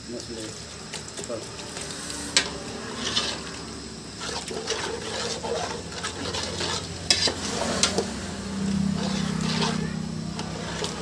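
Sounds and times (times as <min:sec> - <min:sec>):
food sizzling in a pan: 0:00.0 - 0:11.0
spoon stirring and scraping pan: 0:00.4 - 0:11.0.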